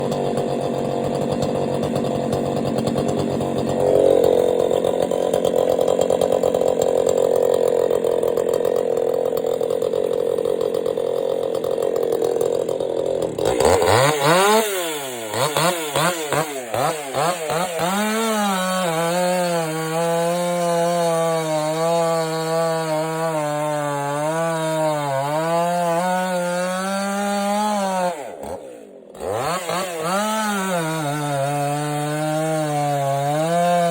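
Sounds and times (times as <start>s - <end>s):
chainsaw cutting and revving: 0.0s - 33.9s.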